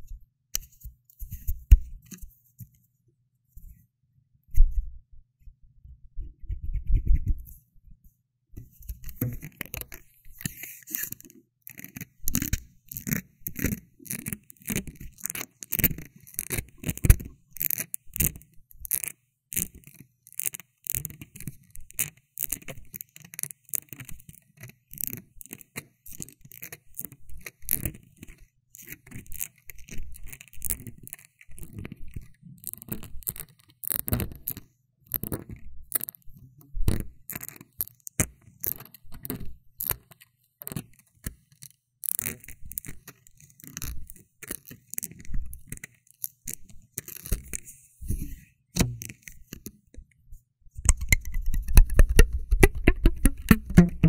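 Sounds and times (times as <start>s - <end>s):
scratching and crackling close to microphone: 0.0s - 54.0s.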